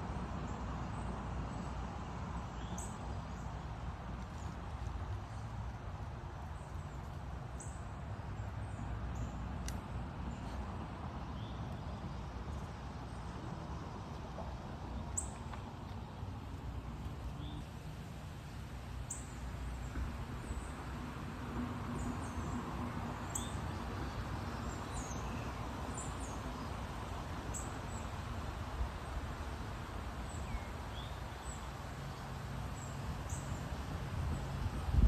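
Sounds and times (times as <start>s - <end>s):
outdoor background hiss: 0.0s - 35.0s.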